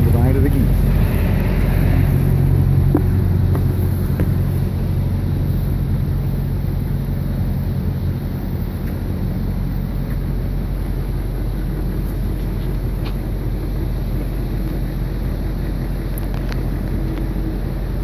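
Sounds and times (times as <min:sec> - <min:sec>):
boat engine running: 0:00.0 - 0:18.0
rush of air and water: 0:00.0 - 0:18.0.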